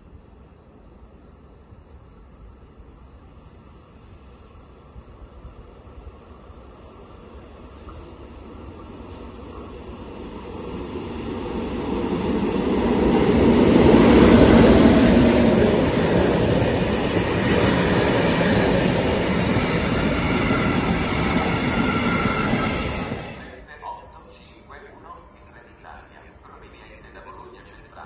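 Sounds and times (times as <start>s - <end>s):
electric locomotive passing: 4.0s - 28.0s.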